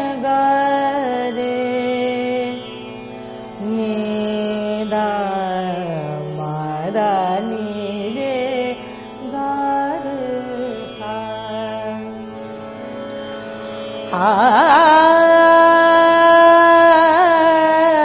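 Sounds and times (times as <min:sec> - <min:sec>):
woman singing wordless melody: 0:00.0 - 0:02.7, 0:03.5 - 0:12.2, 0:14.1 - 0:18.0.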